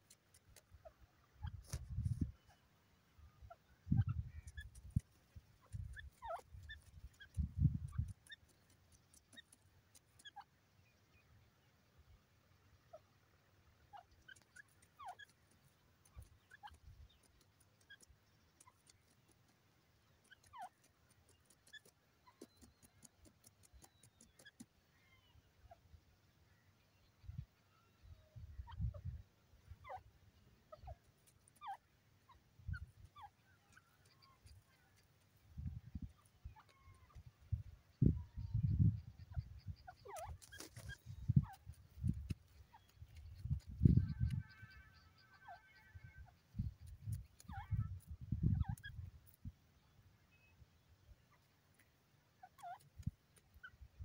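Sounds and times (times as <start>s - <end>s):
faint bird chirps: 0.0s - 54.0s.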